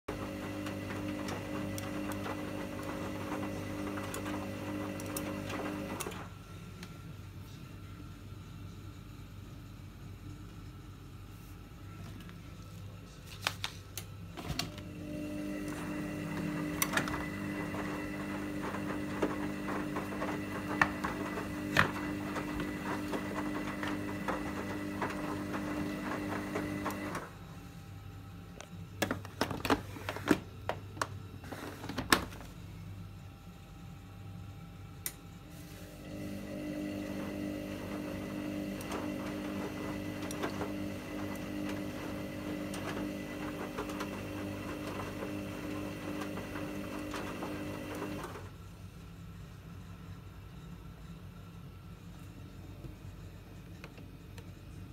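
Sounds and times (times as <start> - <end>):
washing machine motor humming: 0.0 - 7.3, 14.1 - 51.1.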